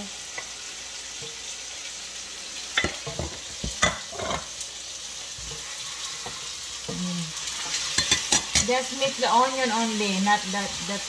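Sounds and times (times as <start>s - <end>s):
meat and onion sizzling in oil: 0.0s - 11.0s.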